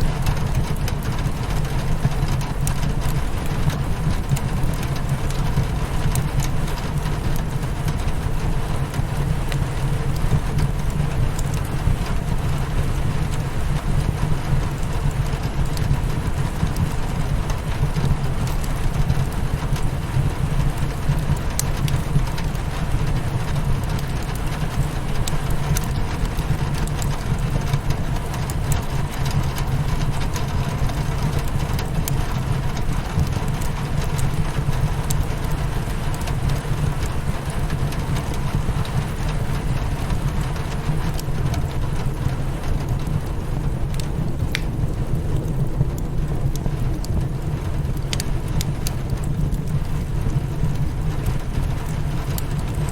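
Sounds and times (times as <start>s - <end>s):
rain against window glass: 0.0s - 52.9s
wood fire crackling: 0.0s - 52.9s.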